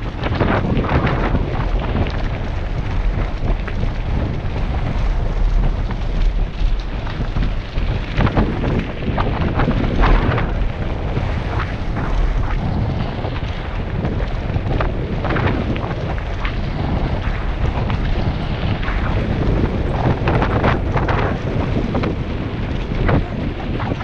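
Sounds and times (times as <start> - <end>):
bike rattling on gravel: 0.0 - 24.0
wind buffeting helmet camera: 0.0 - 24.0.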